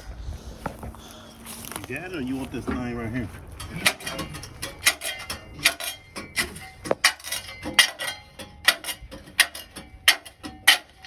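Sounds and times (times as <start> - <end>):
shovel striking roots and concrete: 1.6 - 11.0.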